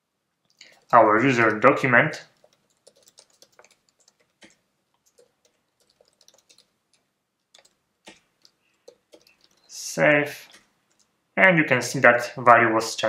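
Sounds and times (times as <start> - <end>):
faint keyboard typing: 0.4 - 11.2.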